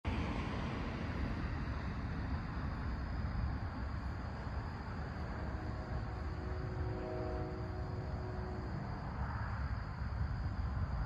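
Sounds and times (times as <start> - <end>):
low outdoor rumble: 0.1 - 11.0.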